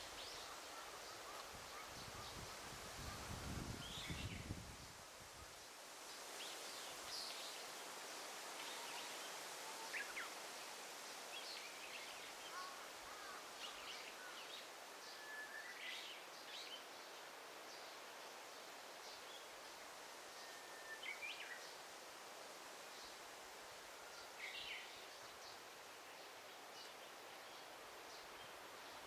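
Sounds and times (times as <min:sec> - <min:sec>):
rustling leaves: 0:00.0 - 0:29.0.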